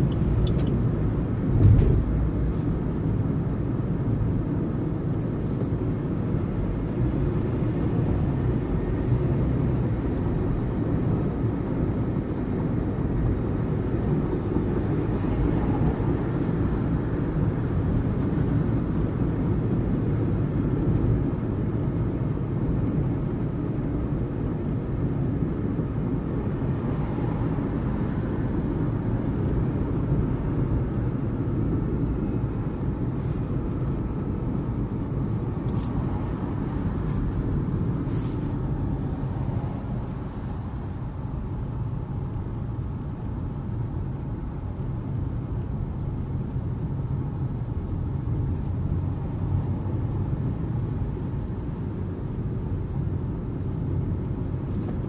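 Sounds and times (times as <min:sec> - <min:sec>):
car tyre and wind noise: 0:00.0 - 0:55.0.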